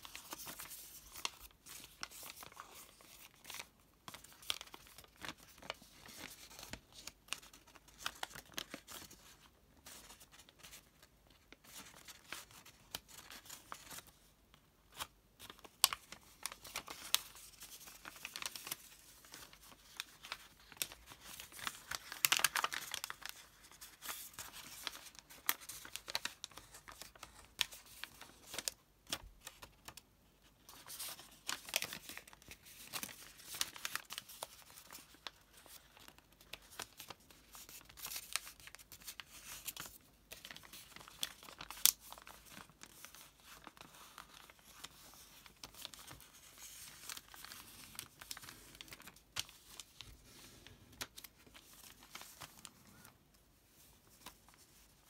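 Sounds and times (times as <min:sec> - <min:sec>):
paper rustling and crinkling: 0:00.0 - 0:55.0.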